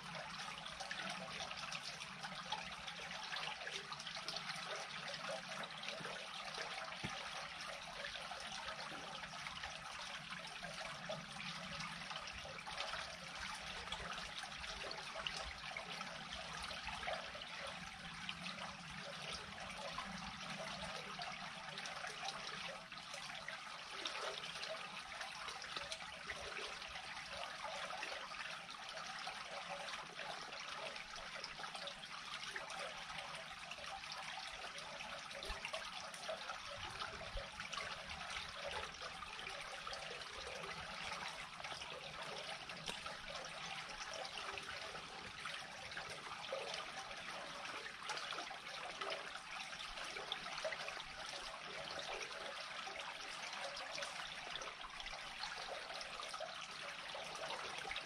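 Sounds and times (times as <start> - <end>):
water draining into culvert: 0.0 - 58.0.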